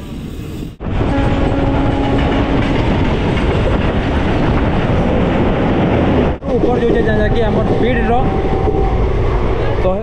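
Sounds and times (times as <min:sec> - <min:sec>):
train rumbling on track: 0:00.0 - 0:10.0.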